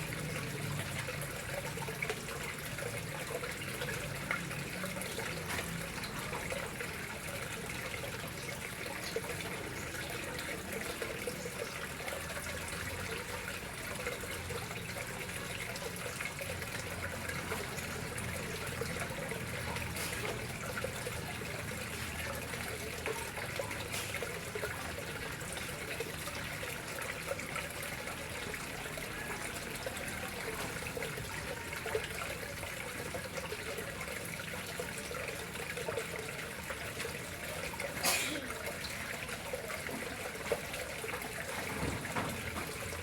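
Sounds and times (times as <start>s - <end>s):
water flowing into pond: 0.0s - 43.0s.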